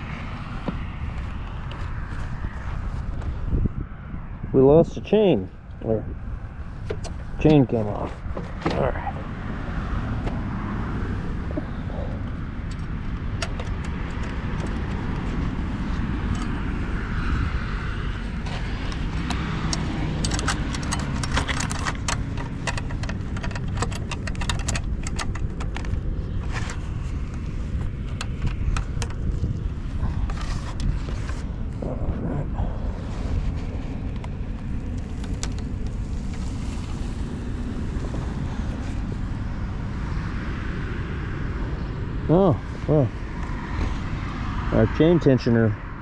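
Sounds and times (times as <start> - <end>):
wind rumbling on microphone: 0.0 - 46.0.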